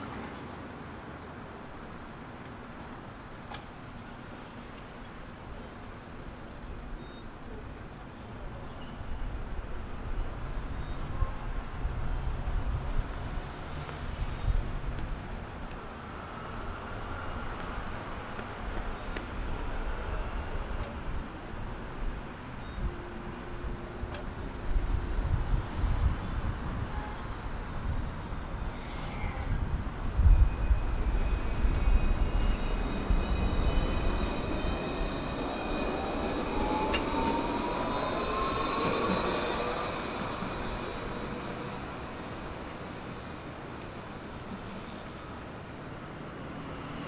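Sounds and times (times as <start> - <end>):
city street traffic rumble: 0.0 - 47.0
faint tram whines: 0.0 - 47.0.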